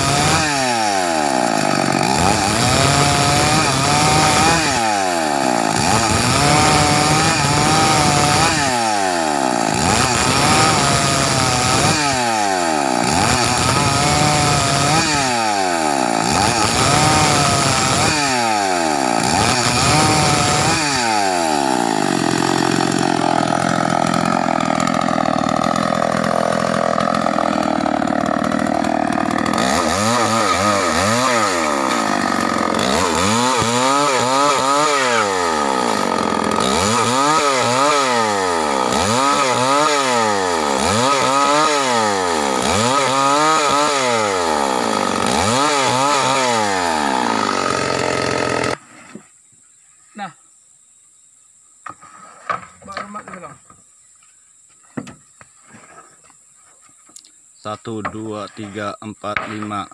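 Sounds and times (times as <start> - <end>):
chainsaw cutting log: 0.0 - 49.2, 51.8 - 53.8, 57.8 - 59.9.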